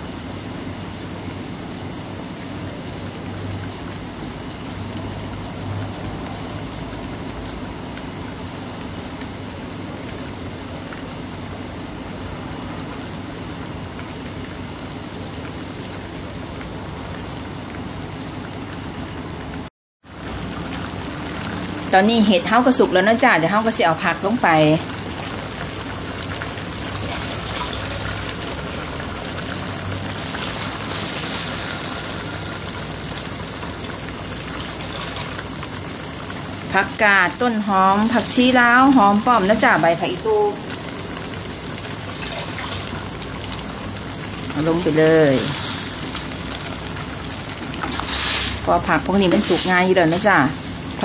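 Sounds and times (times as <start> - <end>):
pot boiling with rushing hiss: 0.0 - 51.0.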